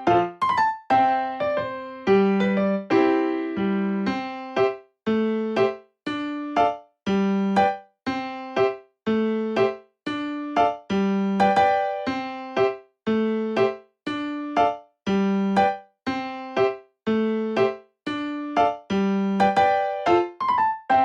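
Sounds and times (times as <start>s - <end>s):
electric piano melody: 0.0s - 21.0s.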